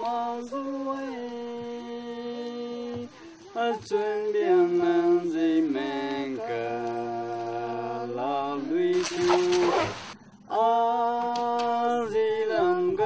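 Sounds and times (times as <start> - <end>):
unaccompanied singing: 0.0 - 13.0.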